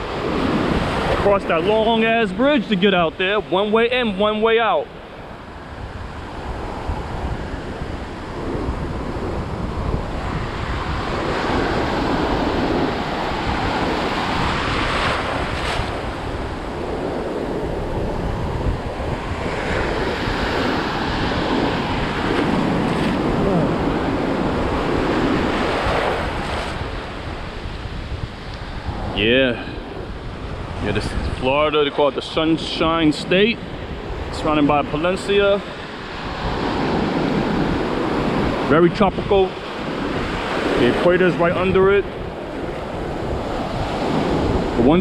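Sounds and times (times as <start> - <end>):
ocean waves breaking: 0.0 - 45.0
wind buffeting microphone: 0.0 - 45.0.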